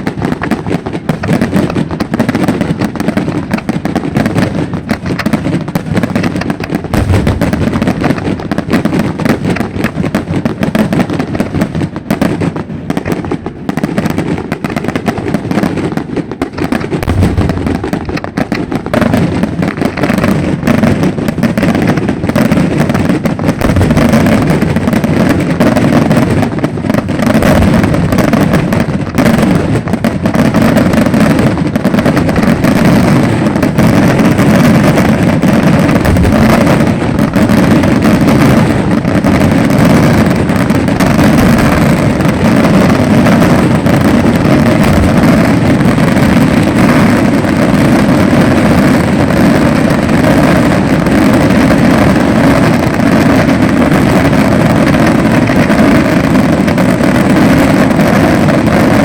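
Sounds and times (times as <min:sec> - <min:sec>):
deep fireworks boom: 0:00.0 - 0:59.0
fireworks crackling bursts: 0:00.0 - 0:59.0.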